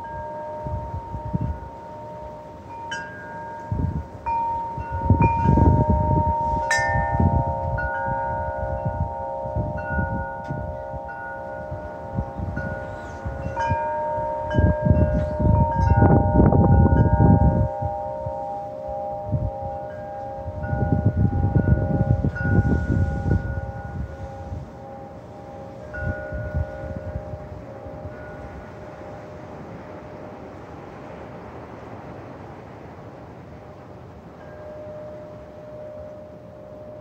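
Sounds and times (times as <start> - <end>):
wind chimes ringing: 0.0 - 32.1, 33.3 - 37.0
wind gusts rumbling: 0.0 - 35.8.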